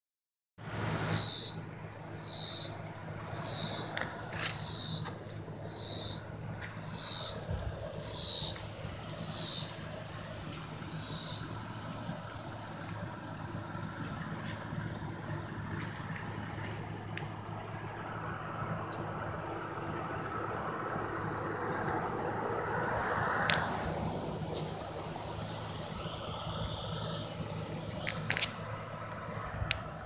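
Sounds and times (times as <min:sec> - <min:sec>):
cicada buzzing pulses: 0:00.6 - 0:30.0.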